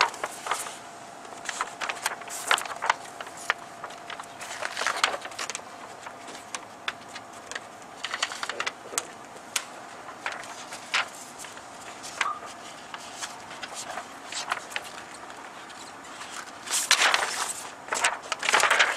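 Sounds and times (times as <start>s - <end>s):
faint steady hum: 0.0s - 18.9s
plastic film clicking and crackling: 0.0s - 18.9s.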